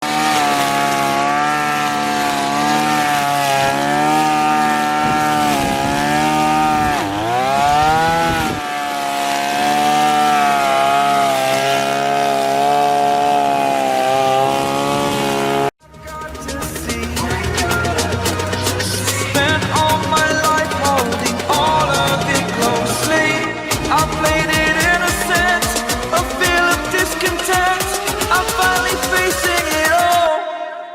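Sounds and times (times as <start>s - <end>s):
brush cutter engine running: 0.0s - 30.2s.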